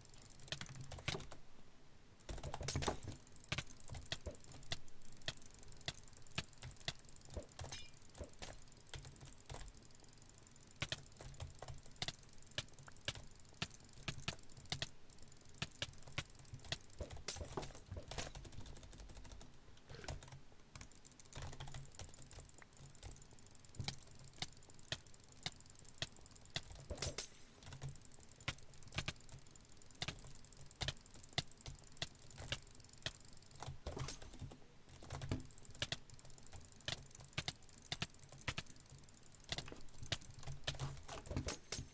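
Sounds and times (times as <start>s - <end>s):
keyboard typing: 0.0s - 1.4s, 2.2s - 41.9s.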